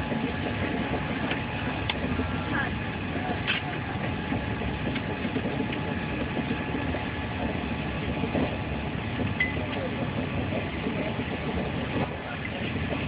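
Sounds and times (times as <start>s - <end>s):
train running noise inside carriage: 0.0s - 13.0s.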